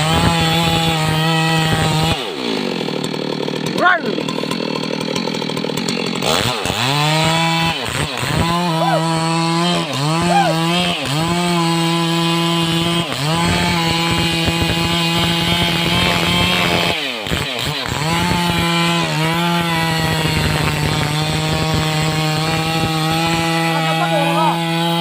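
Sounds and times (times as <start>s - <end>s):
chainsaw cutting log: 0.0s - 25.0s.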